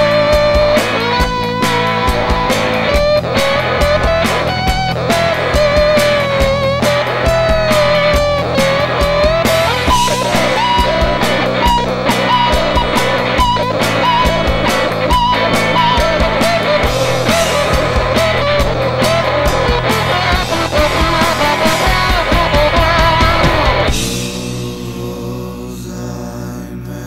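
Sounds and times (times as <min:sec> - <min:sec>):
wavering lead melody: 0:00.0 - 0:25.2
rock song with guitars and drums: 0:00.0 - 0:25.7.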